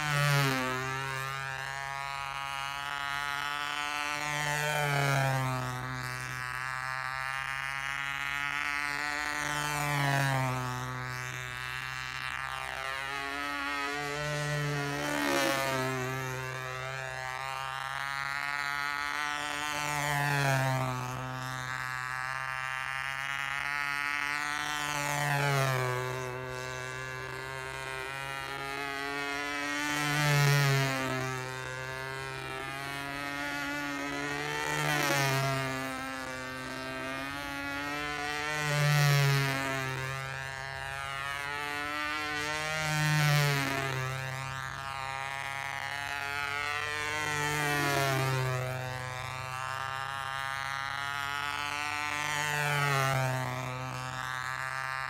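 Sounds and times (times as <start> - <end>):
model airplane motor buzzing: 0.0 - 55.0.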